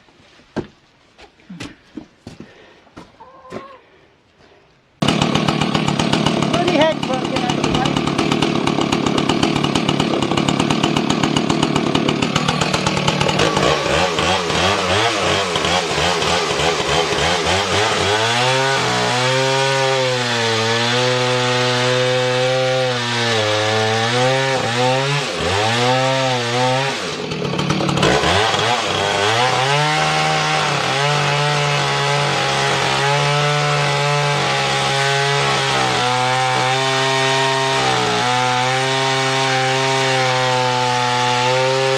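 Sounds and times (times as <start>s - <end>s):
chainsaw cutting: 5.0s - 41.9s.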